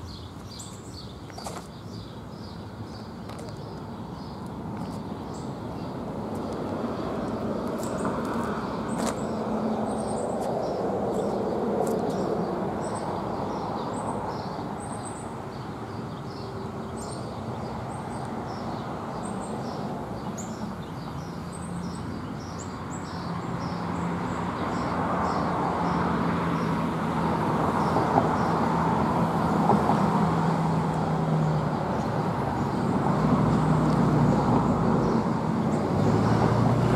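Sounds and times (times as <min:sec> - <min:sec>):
small birds chirping: 0:00.0 - 0:28.8, 0:30.4 - 0:36.9
road traffic rumble: 0:00.0 - 0:36.9.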